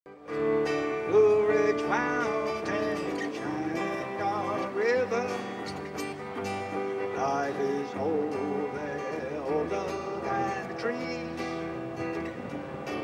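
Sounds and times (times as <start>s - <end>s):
live band playing: 0.2s - 13.0s.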